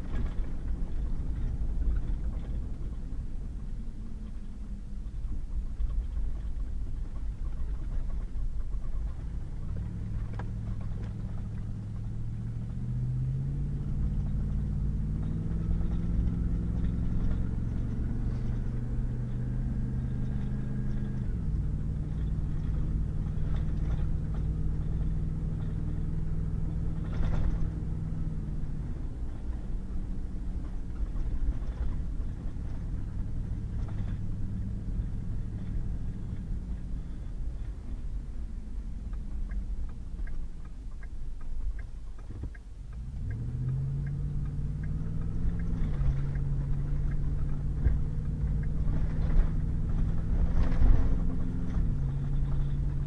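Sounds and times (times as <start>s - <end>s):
low road rumble: 0.0s - 53.0s
pickup truck engine drone: 0.0s - 53.0s.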